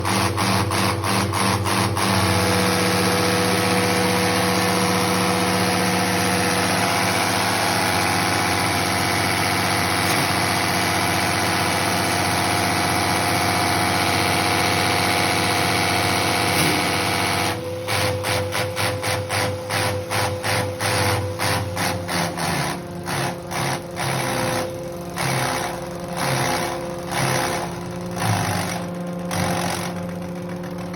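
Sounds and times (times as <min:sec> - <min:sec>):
machine humming and pulsing: 0:00.0 - 0:30.9.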